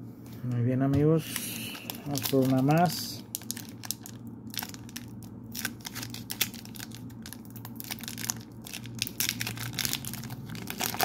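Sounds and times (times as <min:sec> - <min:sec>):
foil wrapper crinkling: 0:01.4 - 0:11.0.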